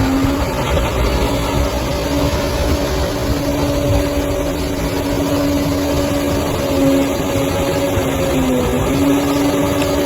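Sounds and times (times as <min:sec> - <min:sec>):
bulldozer diesel engine rumble: 0:00.0 - 0:10.0
engine whine: 0:00.0 - 0:10.0.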